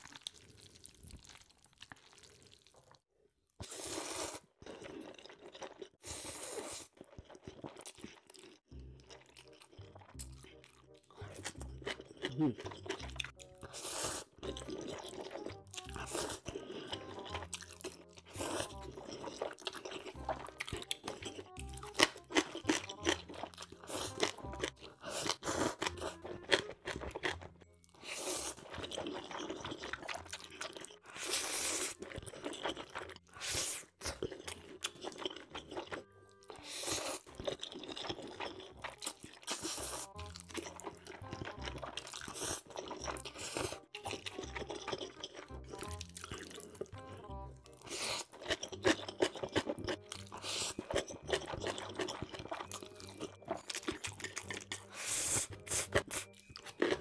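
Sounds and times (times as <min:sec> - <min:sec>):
crunchy chewing and biting: 0:03.6 - 0:57.0
background music: 0:08.4 - 0:57.0.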